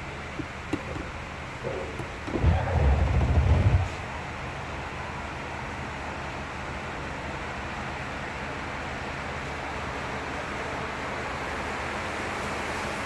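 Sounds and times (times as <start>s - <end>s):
road and wind noise from car: 0.0s - 13.0s.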